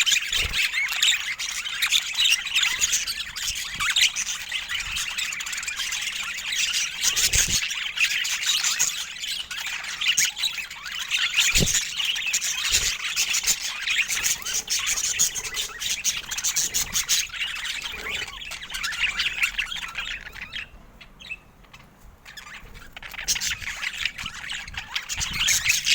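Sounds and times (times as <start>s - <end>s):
budgerigars chattering: 0.0s - 25.9s.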